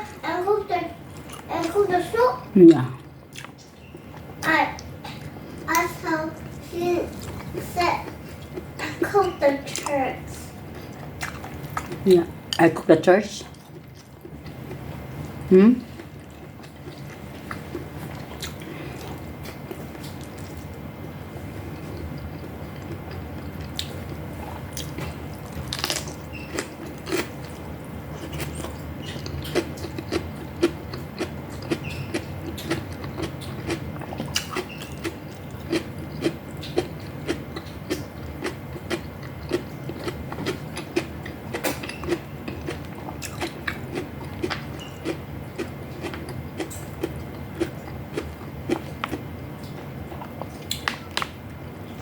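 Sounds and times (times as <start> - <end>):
low steady hum: 0.0 - 52.0
chewing and mouth clicks: 1.1 - 1.8, 2.7 - 8.7, 10.7 - 12.6, 13.4 - 20.8, 21.7 - 51.3.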